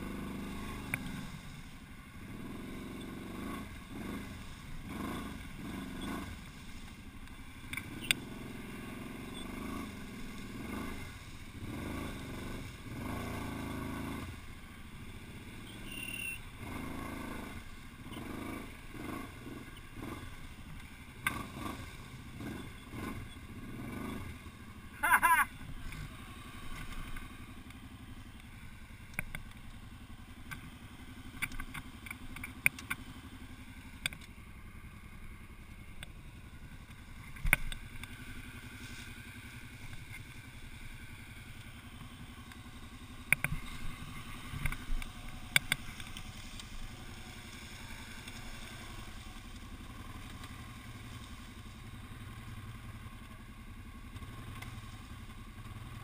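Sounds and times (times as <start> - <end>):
atv engine idling: 0.0 - 56.0.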